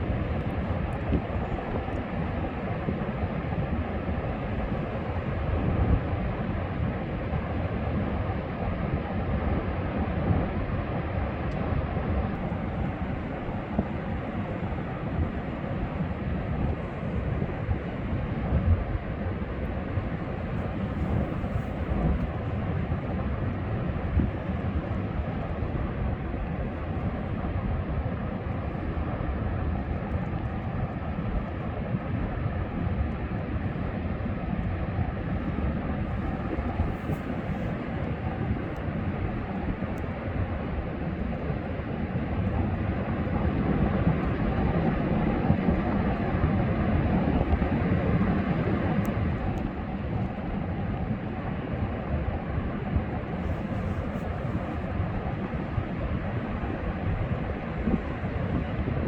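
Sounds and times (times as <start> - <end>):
ocean wash: 0.0 - 59.0
wind: 0.0 - 59.0.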